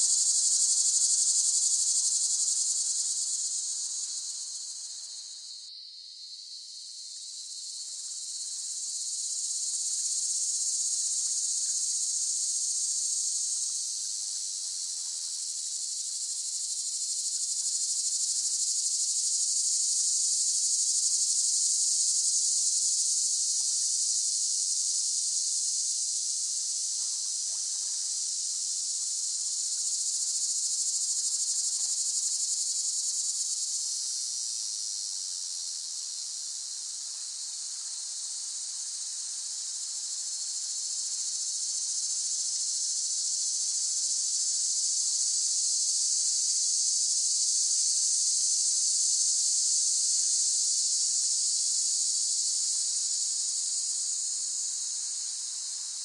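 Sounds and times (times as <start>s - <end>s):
cicadas buzzing: 0.0s - 6.4s, 7.0s - 25.5s, 27.2s - 36.2s, 37.1s - 56.0s.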